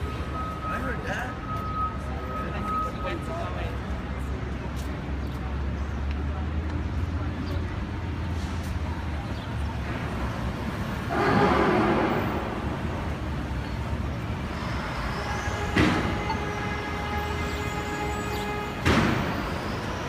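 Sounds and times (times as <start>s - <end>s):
heavy vehicle rumble: 0.0s - 20.0s.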